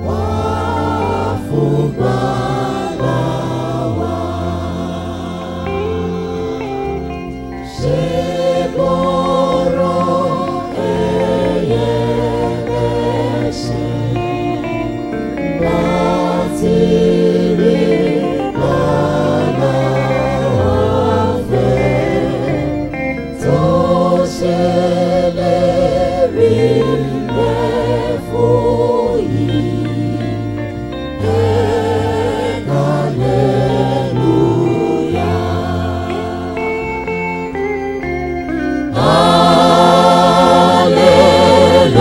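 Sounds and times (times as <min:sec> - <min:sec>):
choir singing a hymn: 0:00.0 - 0:42.0
instrumental accompaniment: 0:00.0 - 0:42.0.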